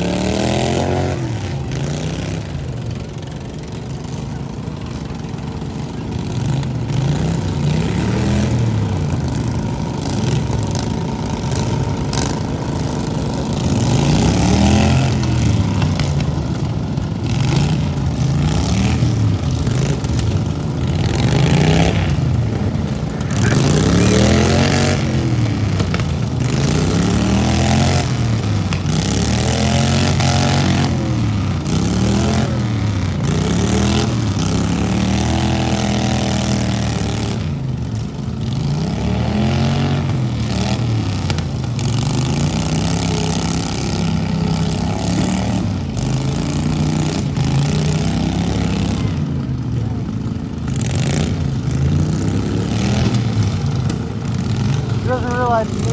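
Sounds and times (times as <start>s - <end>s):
lawn mower engines revving: 0.0s - 55.9s.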